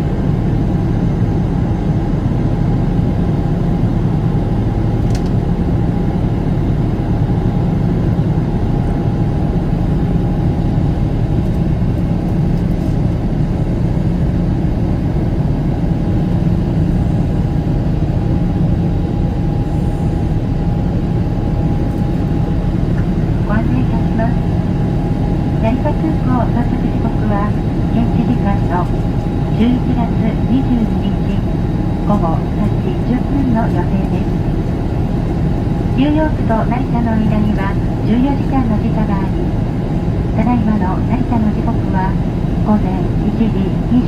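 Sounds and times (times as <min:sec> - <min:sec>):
faint steady whine: 0:00.0 - 0:44.0
jet engine cabin drone: 0:00.0 - 0:44.0.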